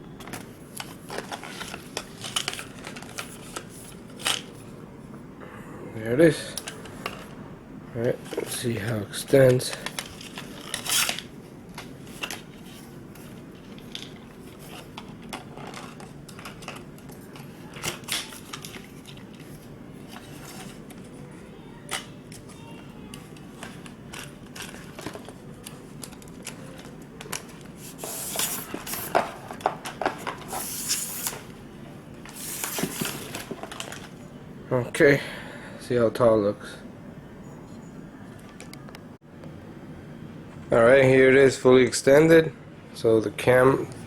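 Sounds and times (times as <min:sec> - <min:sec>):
low background noise: 0:00.0 - 0:44.0.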